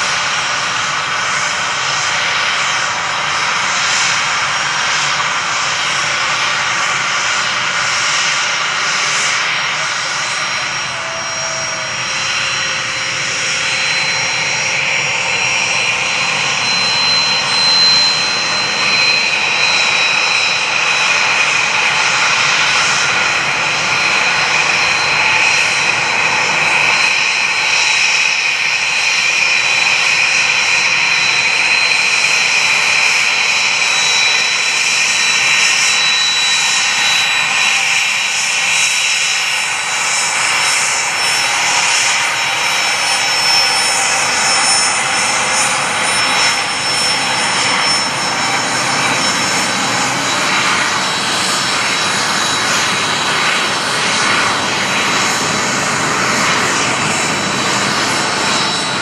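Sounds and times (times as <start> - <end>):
jet engines with turbine whine: 0.0 - 59.0.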